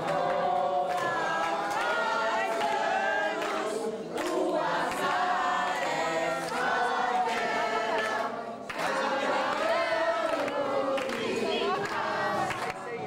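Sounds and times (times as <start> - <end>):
crowd singing a birthday song: 0.0 - 13.0.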